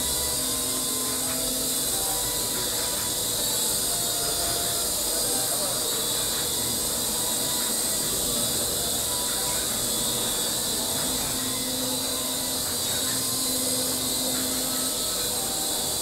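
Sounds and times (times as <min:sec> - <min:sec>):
toy helicopter rotors whirring: 0:00.0 - 0:16.0.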